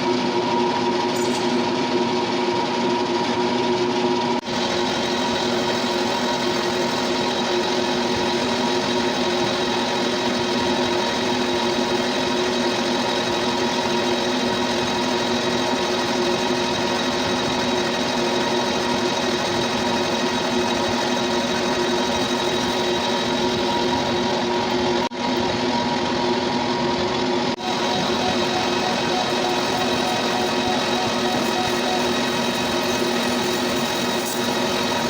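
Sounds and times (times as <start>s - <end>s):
metal lathe humming with high whine: 0.0s - 35.0s.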